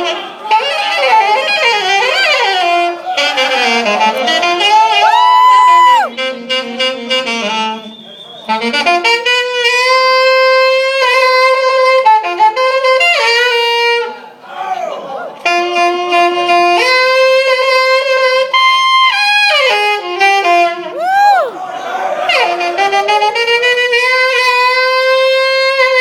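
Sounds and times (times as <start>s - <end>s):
jazz saxophone solo: 0.0s - 7.9s, 8.5s - 14.2s, 15.4s - 21.4s, 22.3s - 26.0s.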